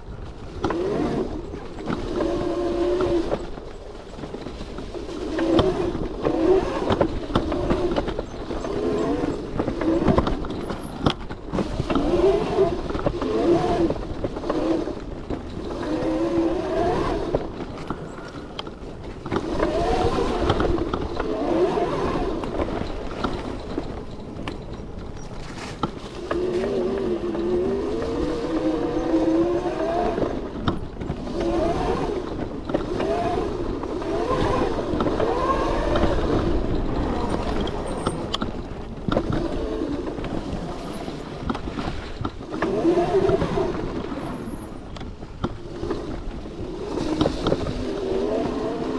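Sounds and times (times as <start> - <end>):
rough rumble over ground: 0.0 - 48.9
wind: 0.0 - 48.9
electric dirt bike motor whining: 5.0 - 48.9.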